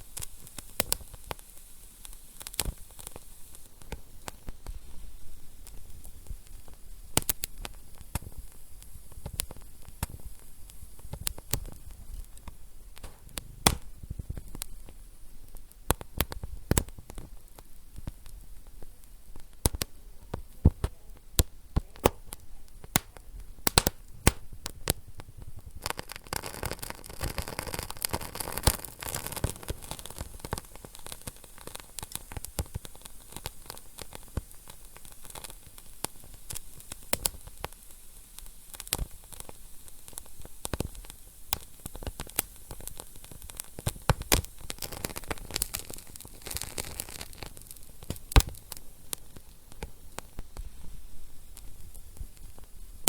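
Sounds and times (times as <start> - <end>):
fire hissing: 0.0 - 53.0
wood fire crackling and popping: 0.0 - 53.0.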